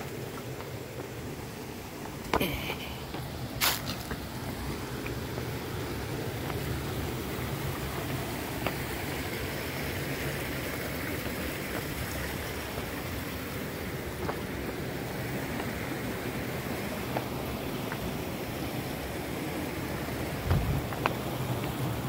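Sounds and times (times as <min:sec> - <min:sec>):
footsteps on stone: 0:00.0 - 0:19.0, 0:19.9 - 0:22.0
water rushing in rocky creek: 0:00.0 - 0:22.0.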